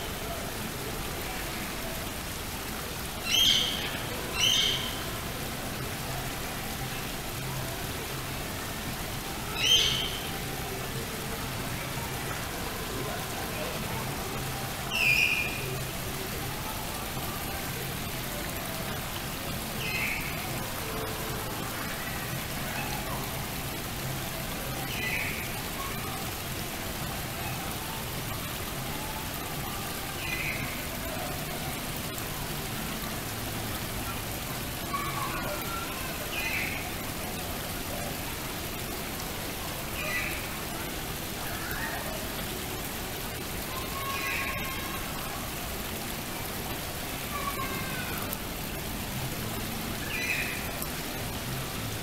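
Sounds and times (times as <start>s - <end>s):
waterfall splashing into pond: 0.0s - 52.0s.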